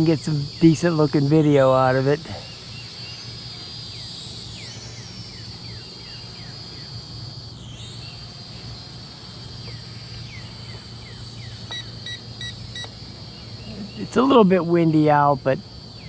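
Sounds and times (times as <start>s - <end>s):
quadcopter hovering whine: 0.0s - 16.0s.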